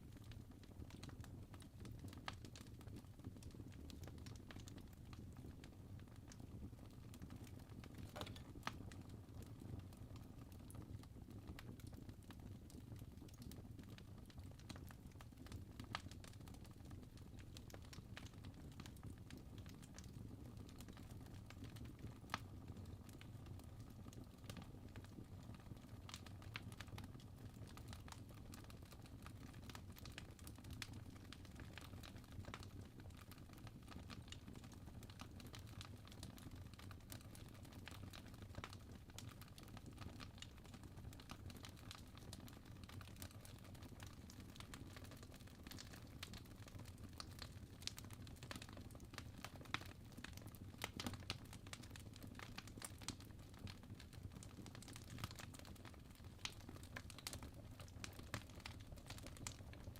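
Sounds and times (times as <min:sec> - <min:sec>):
fire crackling: 0:00.2 - 0:25.3, 0:26.1 - 0:59.9.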